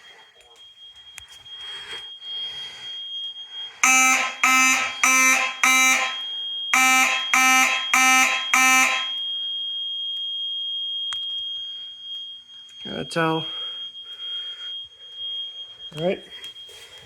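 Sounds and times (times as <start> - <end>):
faint steady high tone: 0.0 - 17.0
fire alarm horn blasts: 0.6 - 17.0.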